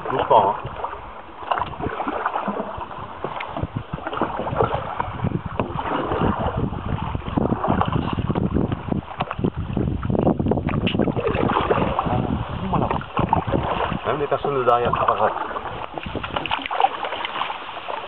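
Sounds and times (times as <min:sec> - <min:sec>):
wind buffeting microphone: 0:00.0 - 0:17.9
water splashing from paddles: 0:00.0 - 0:18.0.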